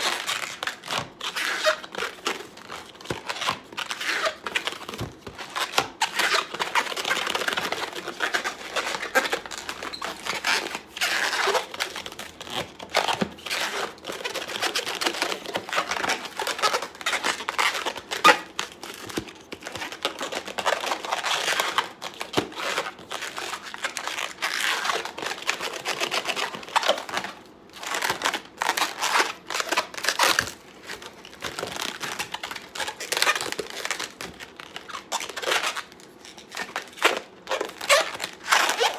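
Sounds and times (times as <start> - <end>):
balloons squeaking and rubbing: 0.0 - 38.9.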